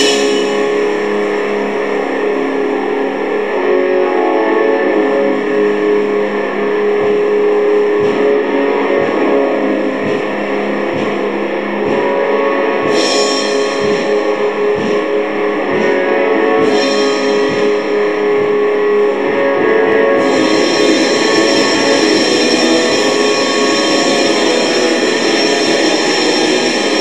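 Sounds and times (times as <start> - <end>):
cymbal crashes: 0.0 - 3.6, 4.9 - 27.0
distorted electric guitar: 0.0 - 27.0
steady low beat: 0.0 - 27.0.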